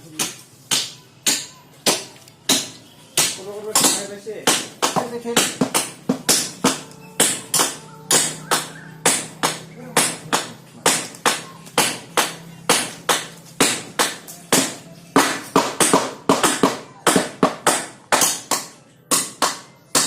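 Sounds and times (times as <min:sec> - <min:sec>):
sharp hand tool knocks: 0:00.2 - 0:20.0.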